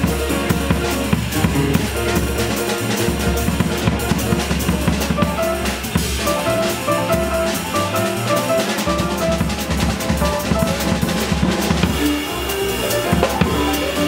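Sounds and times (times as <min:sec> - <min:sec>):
drum kit playing busy pattern: 0:00.0 - 0:14.0
piano: 0:00.0 - 0:14.0
plucked double bass: 0:00.0 - 0:14.0.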